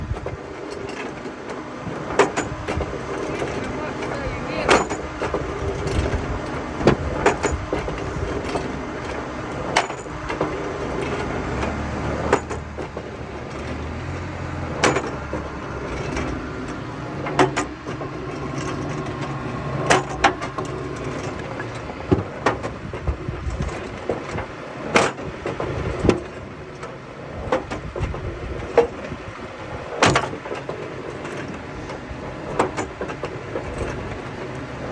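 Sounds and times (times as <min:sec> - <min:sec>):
firewood machine running: 0:00.0 - 0:34.9.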